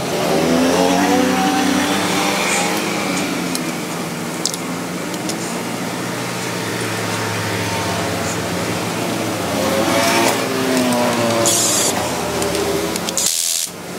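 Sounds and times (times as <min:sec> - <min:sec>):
impact wrench running: 0:00.0 - 0:13.9
steady mechanical hum: 0:00.0 - 0:13.9.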